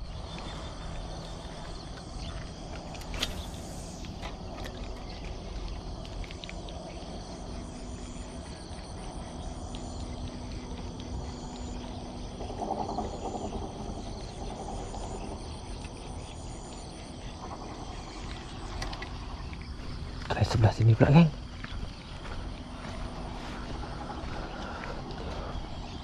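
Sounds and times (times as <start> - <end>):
insects chirping: 0.0 - 26.0
steady low rumble: 0.0 - 26.0.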